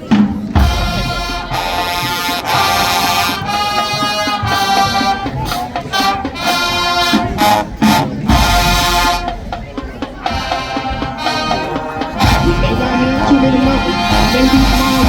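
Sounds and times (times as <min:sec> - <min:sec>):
brass band fanfare chords: 0:00.0 - 0:15.0.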